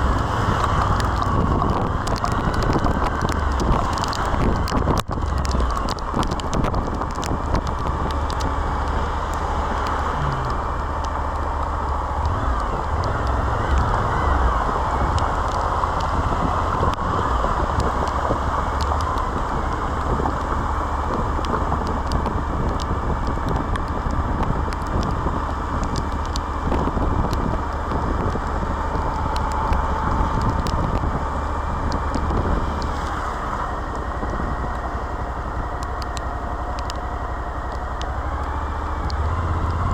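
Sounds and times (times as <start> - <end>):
motorcycle engine running: 0.0 - 39.9
wind rush on microphone: 0.0 - 39.9
small ticks: 0.1 - 39.9.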